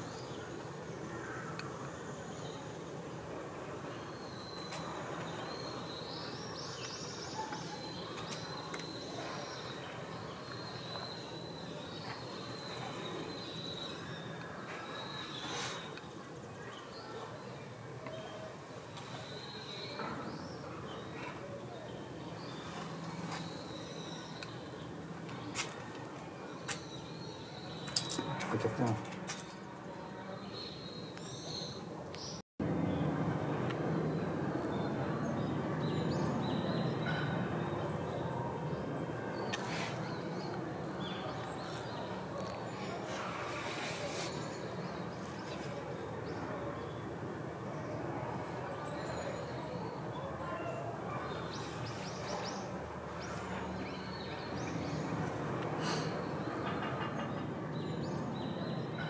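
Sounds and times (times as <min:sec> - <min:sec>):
small birds chirping: 0:00.0 - 0:33.1, 0:34.0 - 0:59.0
outdoor background hiss: 0:00.0 - 0:59.0.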